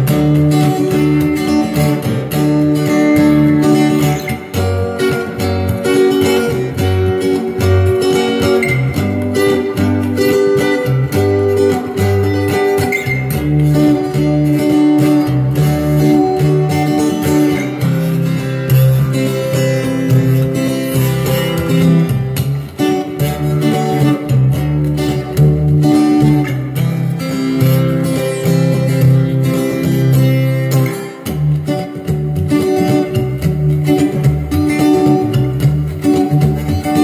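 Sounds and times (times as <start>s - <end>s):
guitar strumming chords: 0.0s - 37.0s.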